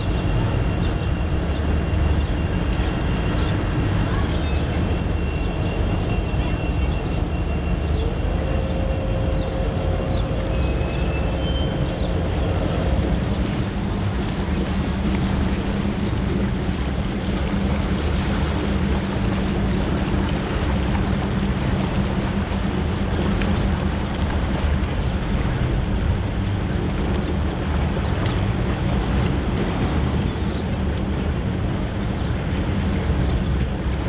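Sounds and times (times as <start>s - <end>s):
boat engine humming: 0.0s - 34.0s
wind buffeting microphone: 0.0s - 34.0s.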